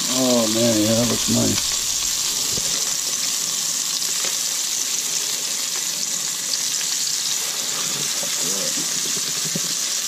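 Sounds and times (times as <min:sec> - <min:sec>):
fish fillets sizzling in a pan: 0:00.0 - 0:10.0.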